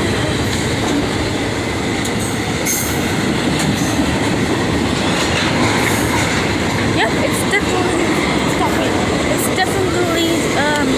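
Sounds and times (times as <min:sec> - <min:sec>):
train wheels rumbling on rail: 0:00.0 - 0:10.9.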